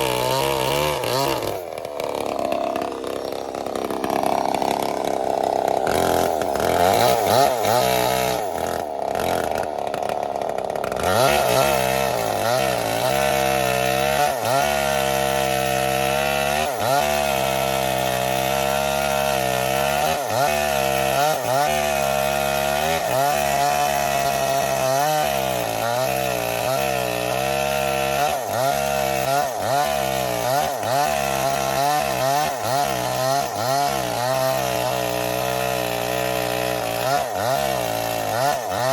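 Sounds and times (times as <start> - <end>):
small diesel engine running: 0.0 - 38.9.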